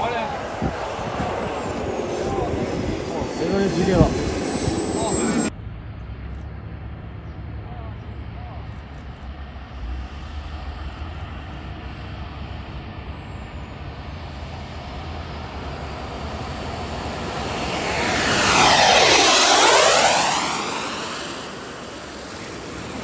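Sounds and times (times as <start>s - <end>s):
model jet flying by: 0.0s - 7.2s, 8.2s - 23.0s
low rumble: 0.0s - 23.0s.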